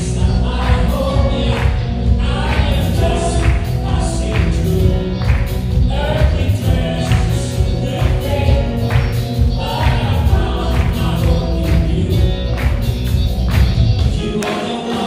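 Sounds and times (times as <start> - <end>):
choir singing: 0.0 - 12.3, 14.1 - 15.0
band with heavy bass: 0.0 - 15.0
steady drum beat: 0.0 - 15.0.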